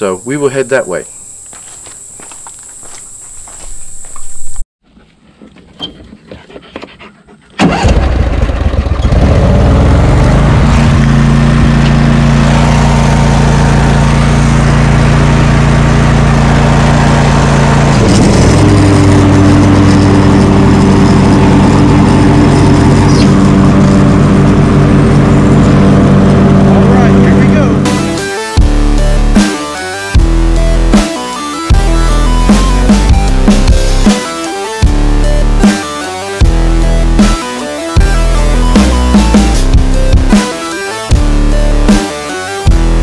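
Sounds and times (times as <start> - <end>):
riding lawn mower engine: 7.6 - 43.0.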